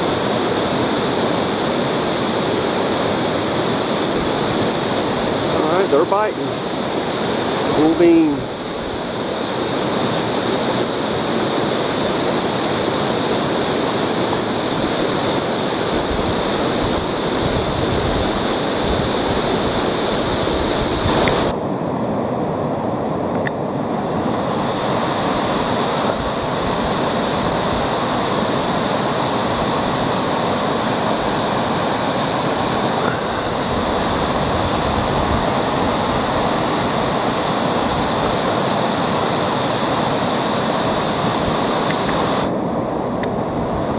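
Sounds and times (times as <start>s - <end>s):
river water rushing over rocks: 0.0s - 43.9s.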